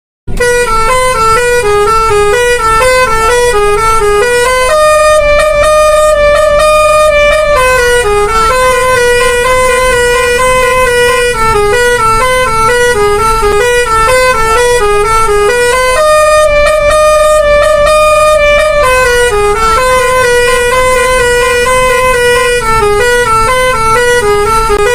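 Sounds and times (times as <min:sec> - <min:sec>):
bus air horn playing a tune: 0:00.3 - 0:24.9.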